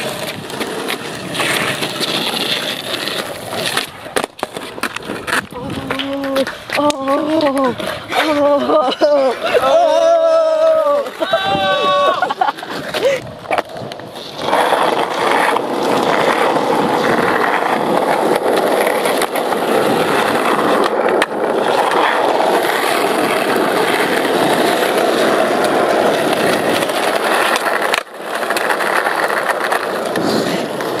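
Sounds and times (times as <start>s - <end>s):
skateboard wheels rolling on asphalt: 0.0s - 31.0s.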